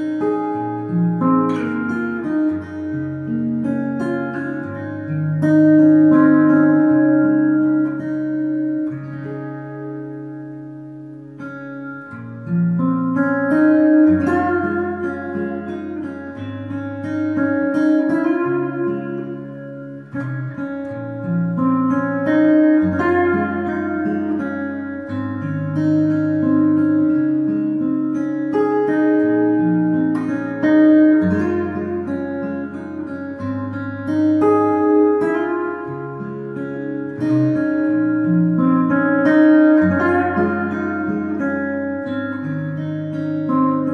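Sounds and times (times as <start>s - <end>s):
fingerpicked acoustic guitar: 0.0s - 43.9s.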